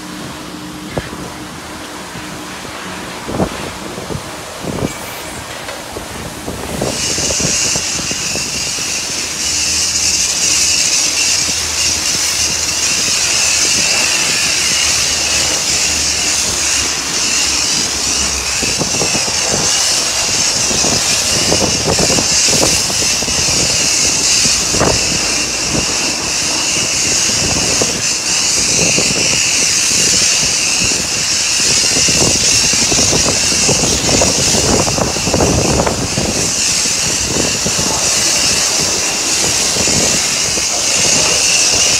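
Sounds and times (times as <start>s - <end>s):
foam lance spraying hiss: 2.9s - 41.9s.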